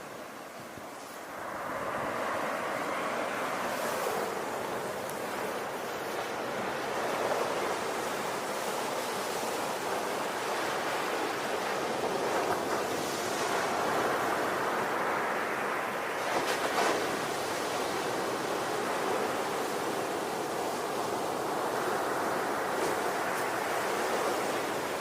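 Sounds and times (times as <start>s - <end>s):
ocean waves washing: 0.0s - 25.0s
waves breaking: 0.0s - 25.0s.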